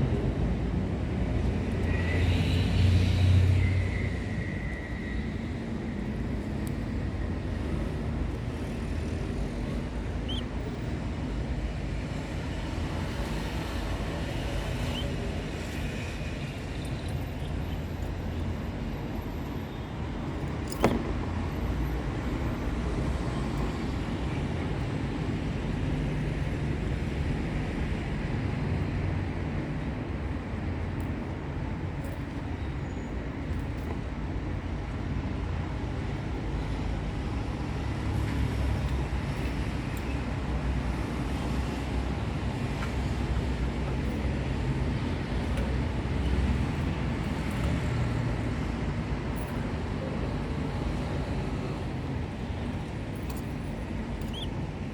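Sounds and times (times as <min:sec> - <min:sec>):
low rumbling background noise: 0:00.0 - 0:54.9.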